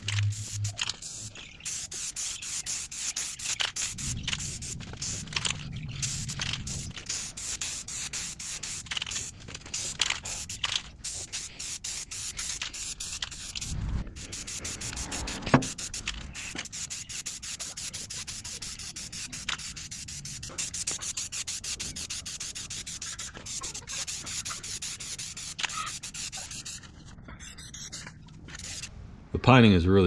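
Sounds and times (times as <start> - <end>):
spray can hissing: 0.0 - 28.9.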